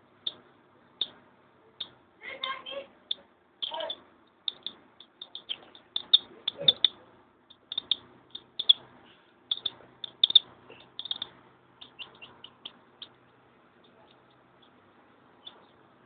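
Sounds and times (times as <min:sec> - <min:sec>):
chick peeping: 0:00.2 - 0:01.2, 0:01.8 - 0:16.0.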